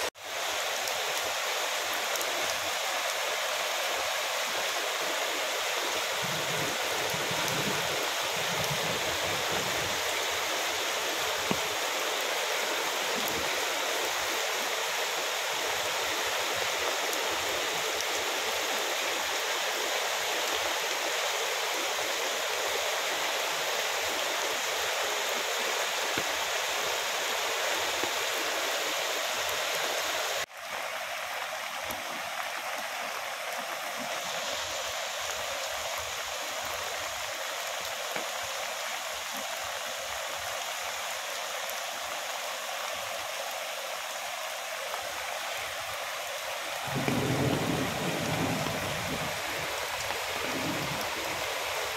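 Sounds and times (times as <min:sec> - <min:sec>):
floodwater rushing: 0:00.0 - 0:51.9.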